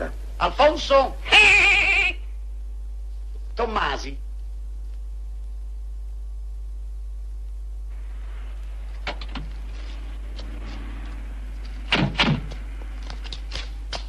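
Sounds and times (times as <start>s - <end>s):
faint background hiss: 0.0s - 13.0s
steady low hum: 0.0s - 14.0s.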